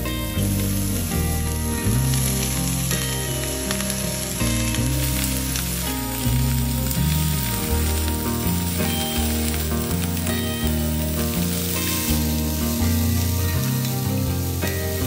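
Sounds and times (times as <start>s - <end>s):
background music with low bass: 0.0s - 15.0s
vegetables sizzling in a pan: 0.0s - 15.0s.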